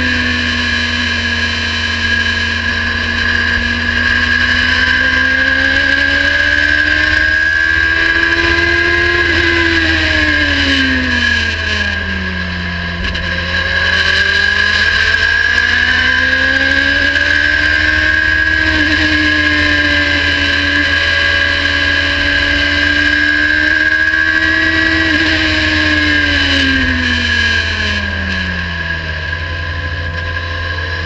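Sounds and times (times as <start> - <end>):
high whine: 0.0 - 31.0
racing car engine revving: 0.0 - 31.0
low rumble: 2.6 - 31.0.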